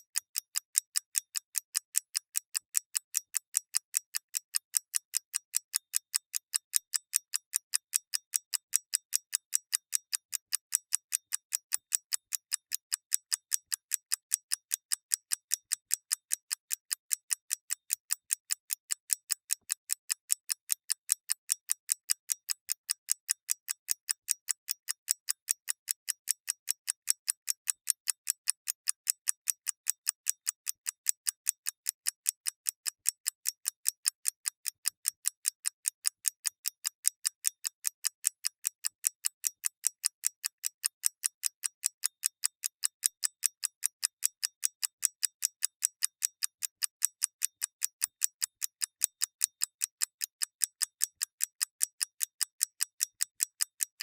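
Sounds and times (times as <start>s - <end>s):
clock ticking: 0.1s - 54.0s.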